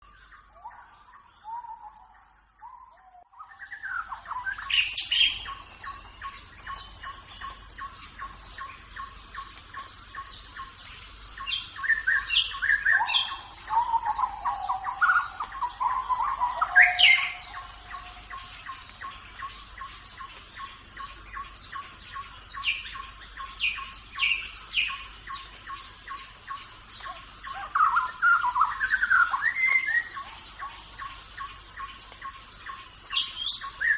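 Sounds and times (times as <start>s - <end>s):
birds calling: 0.0s - 33.9s.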